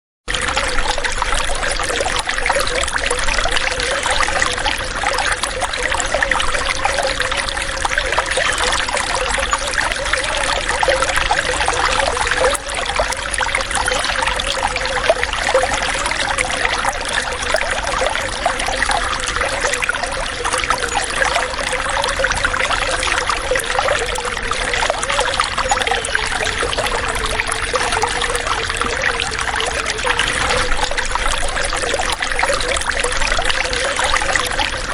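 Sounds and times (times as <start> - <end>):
water trickling and splashing: 0.3 - 34.9.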